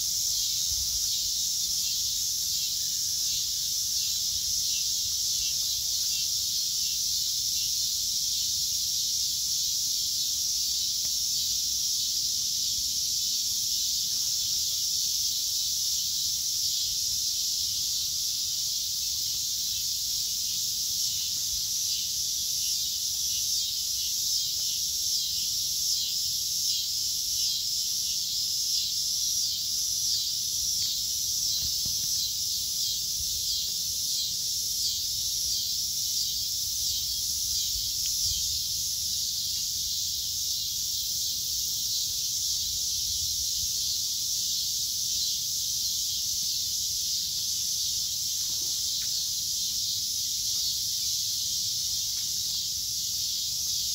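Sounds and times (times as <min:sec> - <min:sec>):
insects chorus: 0:00.0 - 0:53.9.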